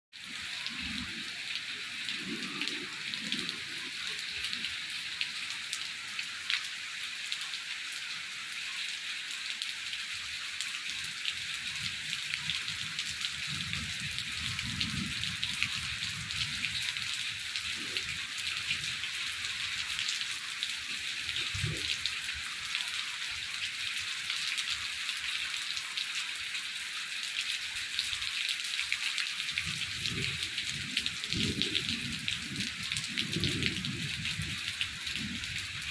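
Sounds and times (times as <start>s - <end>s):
steady rain falling: 0.2s - 35.9s.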